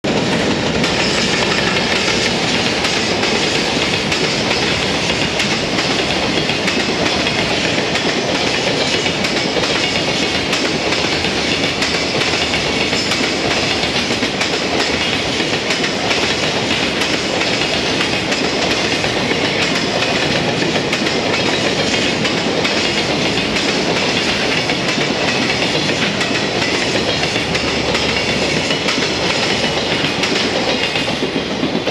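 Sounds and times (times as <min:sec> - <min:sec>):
train wheels rumbling: 0:00.0 - 0:31.9
wheels clicking over rail joints: 0:00.1 - 0:31.9.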